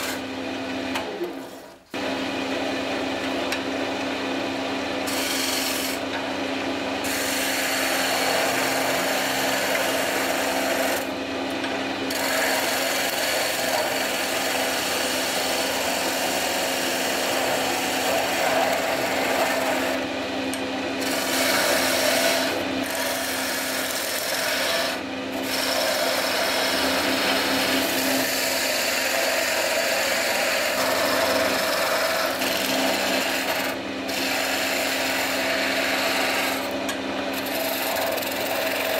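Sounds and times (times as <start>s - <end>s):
chisel scraping spinning wood: 0.0s - 0.3s, 4.9s - 6.3s, 7.0s - 38.9s
wood lathe humming: 0.0s - 38.9s.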